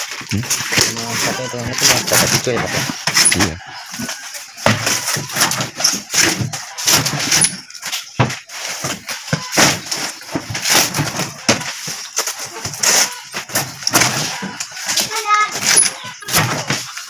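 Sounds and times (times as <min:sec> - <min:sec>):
wood veneer sheets rustling and slapping: 0:00.0 - 0:17.0.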